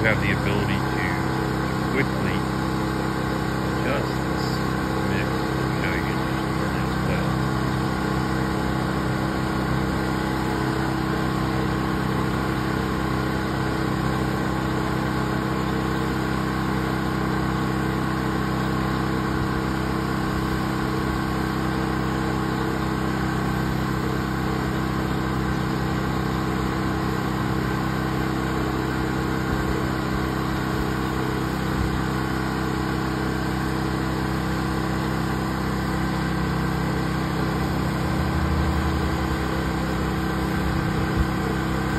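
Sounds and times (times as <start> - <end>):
pressure washer engine running: 0.0 - 41.9.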